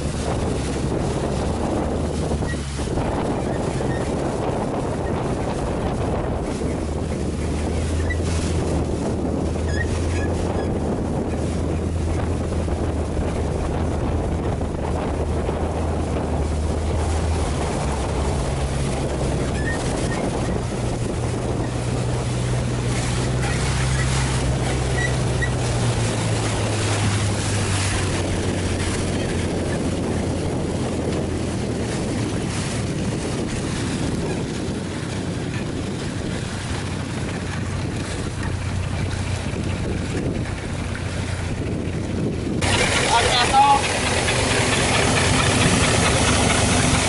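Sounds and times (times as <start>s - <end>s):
boat engine running: 0.0s - 47.0s
water rushing along hull: 0.0s - 47.0s
wind on microphone: 0.0s - 47.0s.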